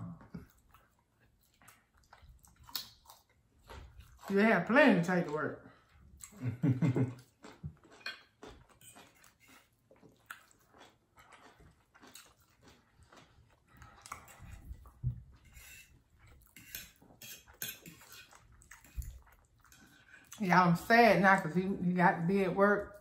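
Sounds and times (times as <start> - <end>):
chewing and lip smacking: 0.4 - 4.4, 5.7 - 20.4.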